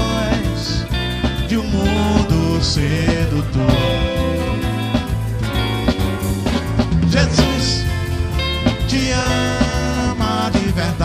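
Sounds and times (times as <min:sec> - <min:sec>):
acoustic guitar playing: 0:00.0 - 0:11.0
bass line: 0:00.0 - 0:11.0.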